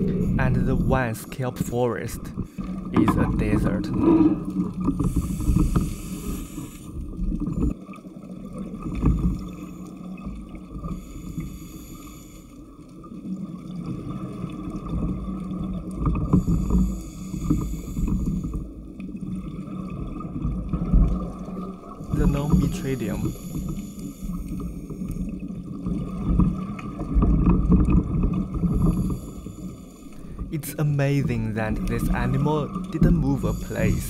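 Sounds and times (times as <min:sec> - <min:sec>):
scuba exhaust bubbles hissing: 0:00.0 - 0:01.4, 0:02.3 - 0:34.0
underwater scooter motor humming: 0:00.0 - 0:34.0.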